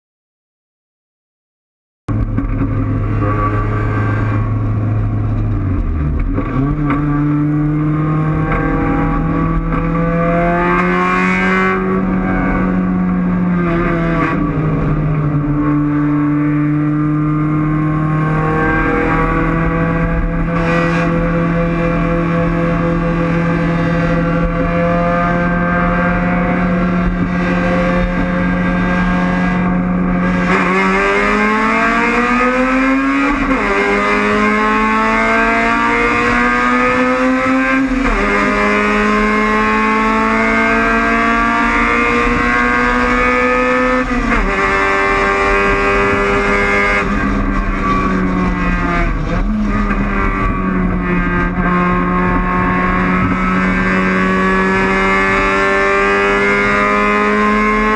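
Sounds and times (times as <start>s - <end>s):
race car engine revving: 2.1s - 57.9s.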